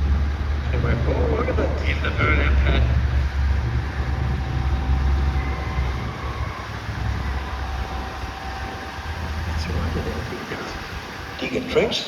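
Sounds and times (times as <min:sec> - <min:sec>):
diesel truck engine revving: 0:00.0 - 0:12.0
tyres spinning: 0:00.0 - 0:12.0.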